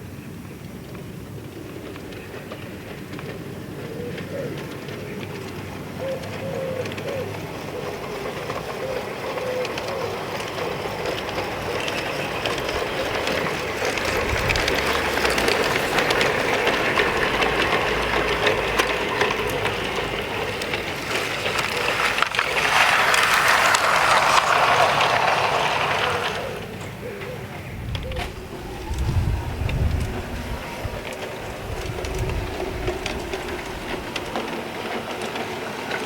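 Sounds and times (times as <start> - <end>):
model train wheels clicking: 0.0 - 36.0.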